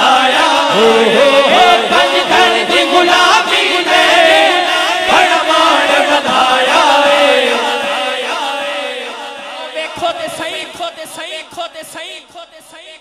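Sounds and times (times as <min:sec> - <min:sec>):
men singing devotional chant: 0:00.0 - 0:13.0.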